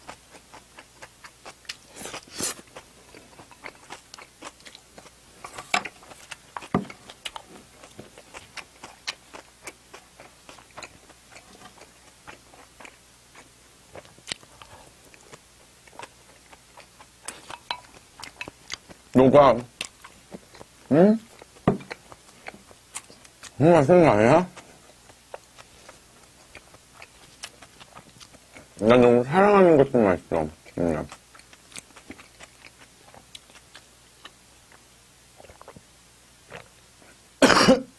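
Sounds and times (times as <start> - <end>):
person chewing food: 0.0 - 23.6, 24.4 - 29.1, 30.5 - 37.2.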